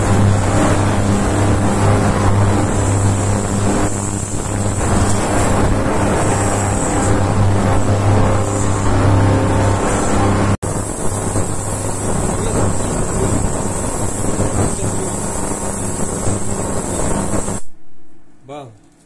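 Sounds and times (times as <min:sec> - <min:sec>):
ultrasonic cleaner buzzing: 0:00.0 - 0:17.8.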